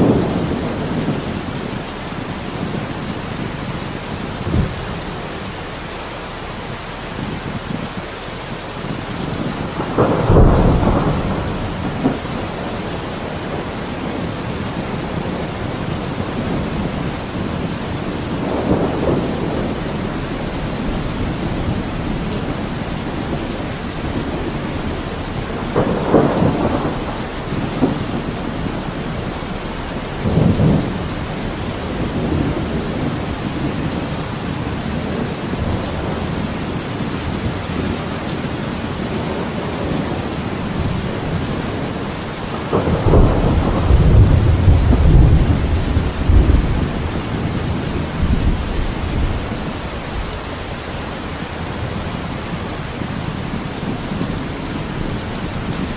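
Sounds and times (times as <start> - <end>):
heavy rain: 0.0 - 55.9
thunder rumbling: 0.0 - 55.9.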